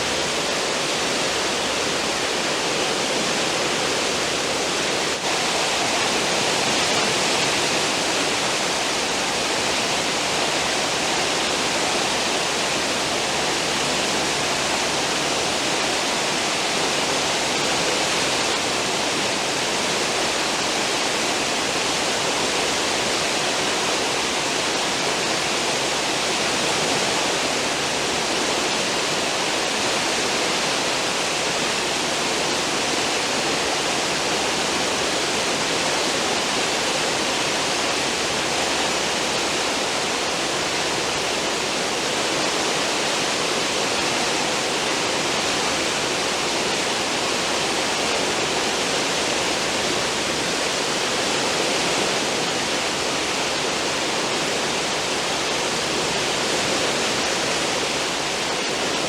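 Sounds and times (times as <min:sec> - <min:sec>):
seawater rushing and foaming: 0:00.0 - 0:59.0.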